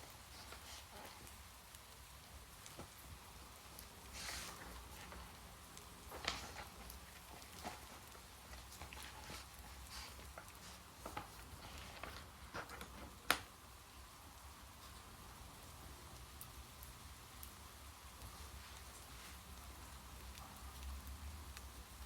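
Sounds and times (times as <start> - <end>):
faint rain: 0.0 - 22.0.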